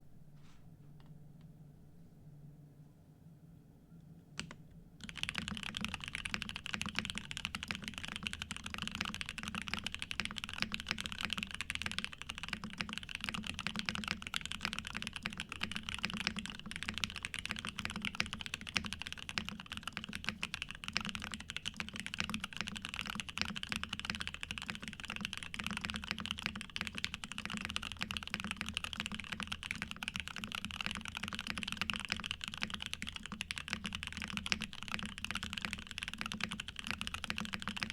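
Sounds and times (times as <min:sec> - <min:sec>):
mechanical keyboard typing: 0:04.4 - 0:37.9.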